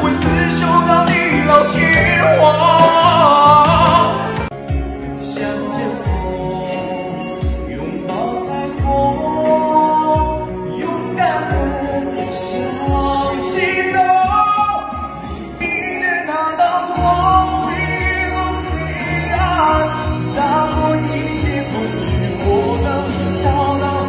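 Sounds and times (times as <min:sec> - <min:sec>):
man singing: 0:00.0 - 0:24.0
pop backing track with beat: 0:00.0 - 0:24.0.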